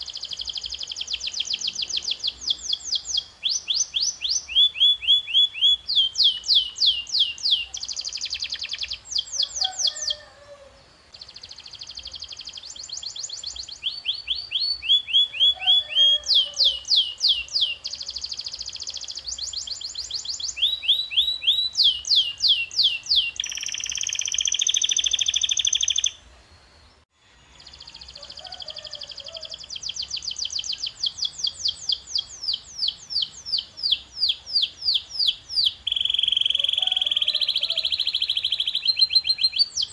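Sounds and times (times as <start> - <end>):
canary singing: 0.0 - 26.2, 27.5 - 39.9.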